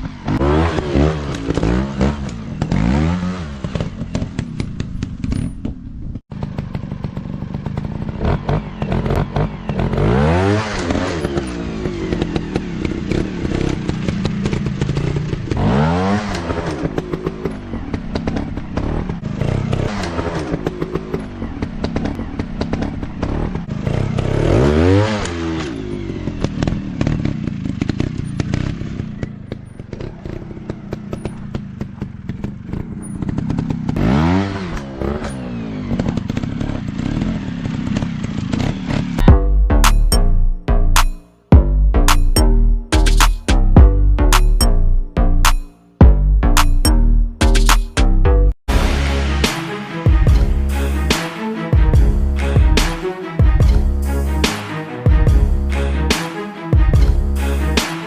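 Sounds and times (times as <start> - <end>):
motorcycle engines revving: 0.0 - 41.3, 48.7 - 58.0.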